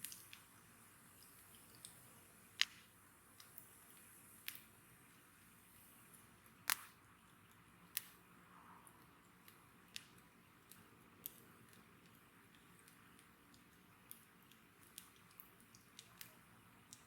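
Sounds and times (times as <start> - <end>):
campfire burning: 0.0 - 8.2, 9.0 - 17.0
soft hiss: 0.0 - 17.0.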